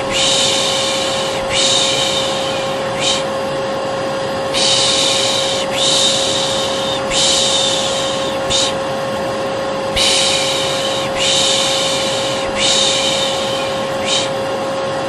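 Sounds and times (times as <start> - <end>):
person shushing: 0.0 - 3.4, 4.5 - 8.9, 9.9 - 14.5
vacuum cleaner humming: 0.0 - 15.0.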